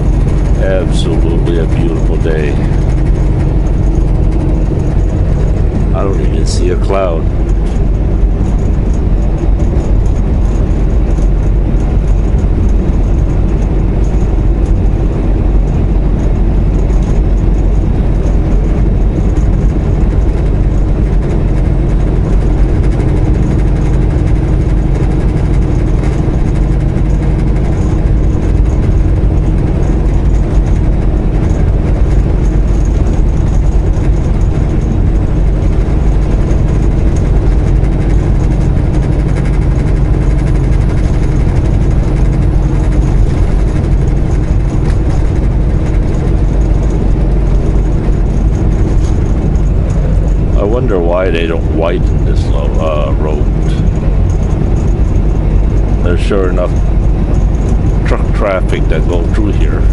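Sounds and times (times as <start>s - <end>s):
truck diesel engine cruising: 0.0s - 59.9s
tyre and road noise: 0.0s - 59.9s.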